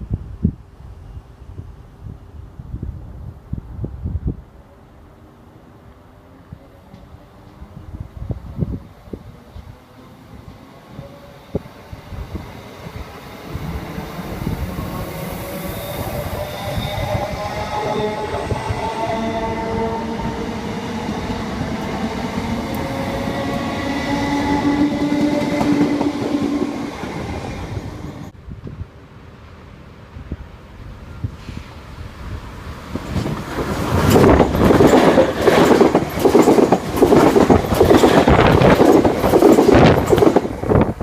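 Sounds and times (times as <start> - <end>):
train rumbling past: 2.7 - 41.0.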